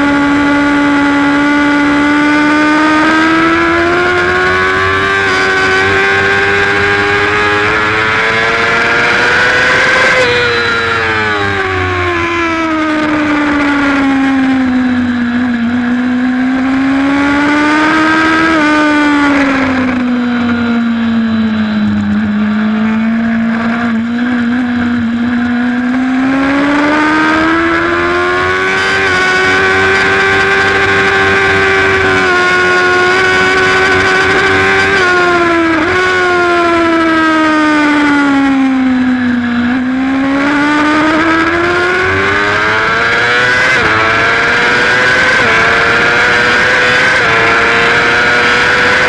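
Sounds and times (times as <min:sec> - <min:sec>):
racing motorcycle engine: 0:00.0 - 0:49.0.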